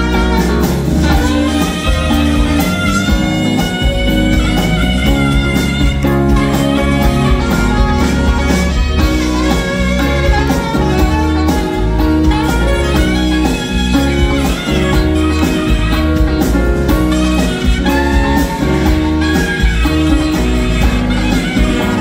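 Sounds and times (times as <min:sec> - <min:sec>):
saxophone: 0:00.0 - 0:22.0
soft-rock band playing: 0:00.0 - 0:22.0.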